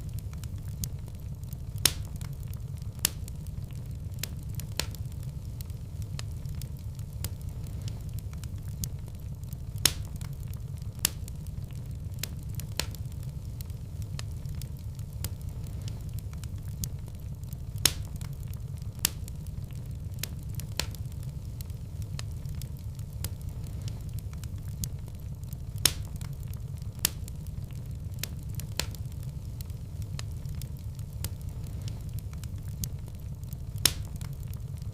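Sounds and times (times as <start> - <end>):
fire crackling and popping: 0.0 - 34.9
fire rumbling: 0.0 - 34.9.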